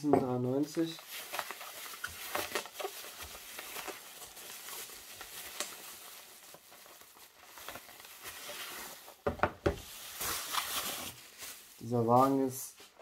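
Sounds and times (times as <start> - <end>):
bubble wrap crinkling: 0.4 - 13.0.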